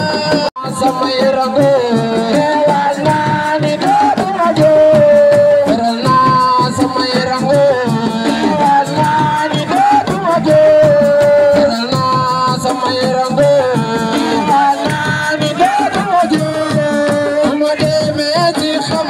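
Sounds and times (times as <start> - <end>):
hand drums: 0.0 - 19.0
person singing: 0.0 - 19.0.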